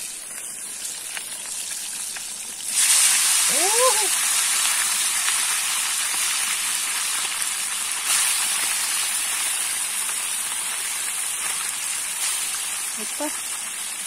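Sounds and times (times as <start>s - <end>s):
fish deep-frying in oil: 0.0s - 14.0s.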